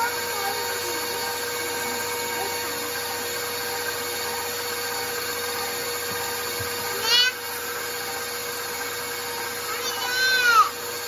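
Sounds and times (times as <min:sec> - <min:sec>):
stand mixer motor whine: 0:00.0 - 0:11.0.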